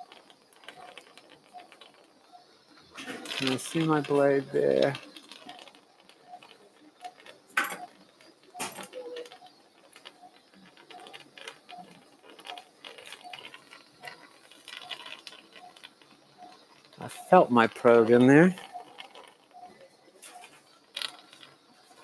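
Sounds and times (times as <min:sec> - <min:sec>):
soft beeps: 0:00.0 - 0:22.0.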